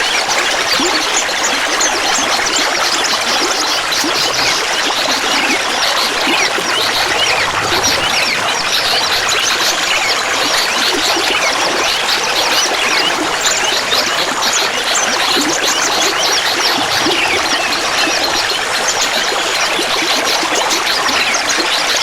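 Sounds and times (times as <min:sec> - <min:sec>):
water babbling and trickling: 0:00.0 - 0:22.0.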